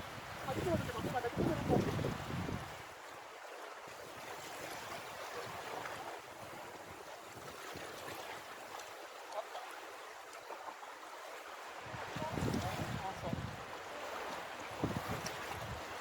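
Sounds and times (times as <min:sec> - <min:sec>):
sea water and small waves: 0:00.0 - 0:16.0.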